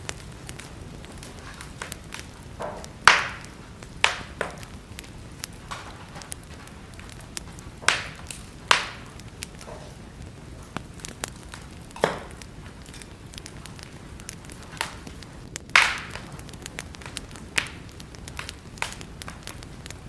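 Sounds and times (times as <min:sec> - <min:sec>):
loud fire pops: 0:00.0 - 0:20.0
wood fire crackling: 0:00.0 - 0:20.0.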